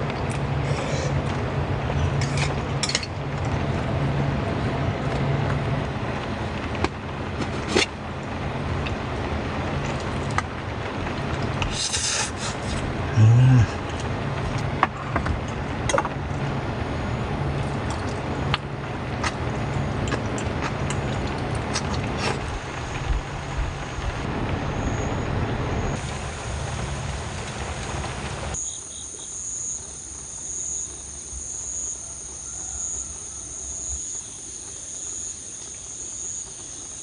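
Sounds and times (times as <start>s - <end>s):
heavy rain falling: 0.0s - 30.2s.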